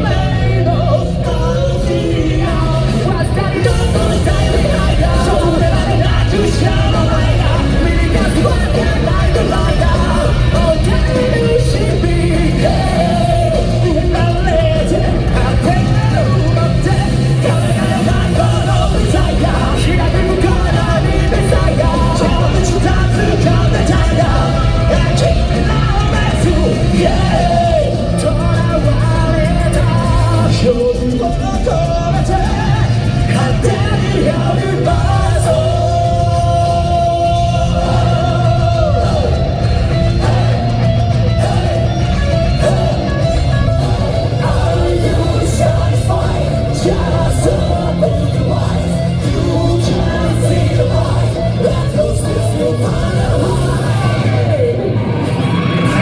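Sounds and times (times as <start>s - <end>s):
lead vocals singing: 0.0s - 56.0s
rock band playing loudly: 0.0s - 56.0s.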